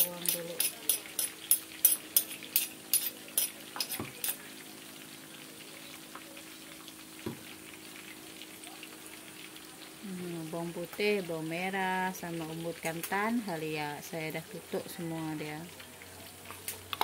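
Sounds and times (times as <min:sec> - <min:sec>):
hot oil crackling in a wok: 0:00.0 - 0:17.0.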